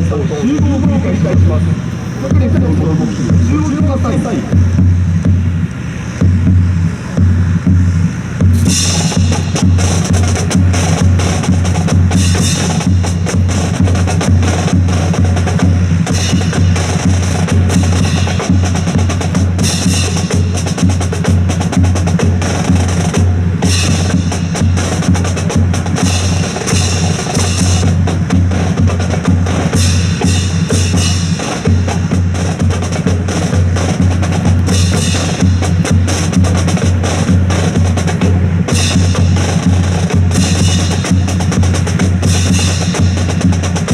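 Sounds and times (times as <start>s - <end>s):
pulsing drumbeat: 0.0s - 43.9s.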